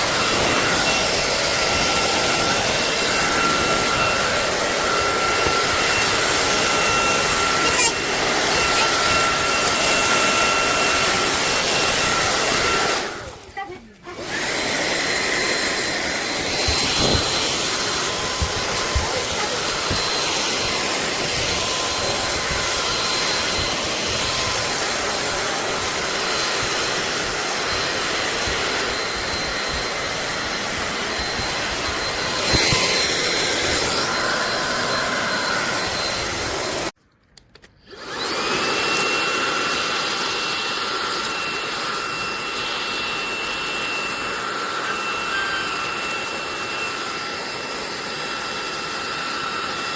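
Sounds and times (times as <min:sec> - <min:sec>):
stick vacuum running: 0:00.0 - 0:37.0, 0:37.8 - 0:49.9.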